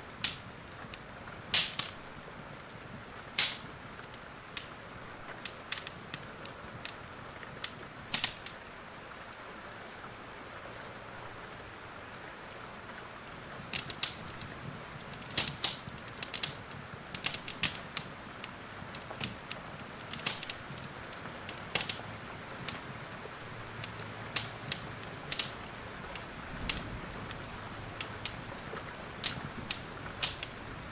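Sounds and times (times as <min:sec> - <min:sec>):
wood fire crackling and popping: 0:00.0 - 0:08.7, 0:13.4 - 0:30.9
steady rain: 0:00.0 - 0:30.9.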